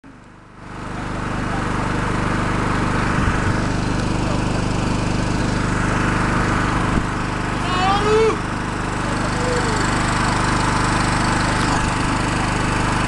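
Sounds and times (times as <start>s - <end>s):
motorcycle engines droning: 0.6s - 13.0s.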